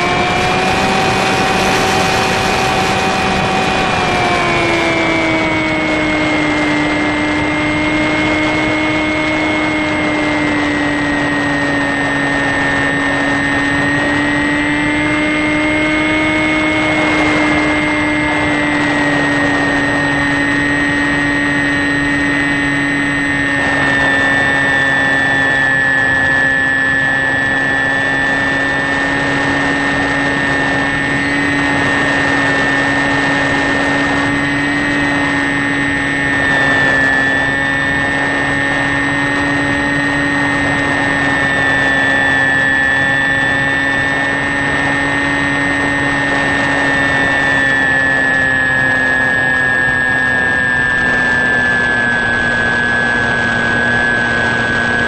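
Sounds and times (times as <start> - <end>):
model plane motor whine: 0.0 - 55.0.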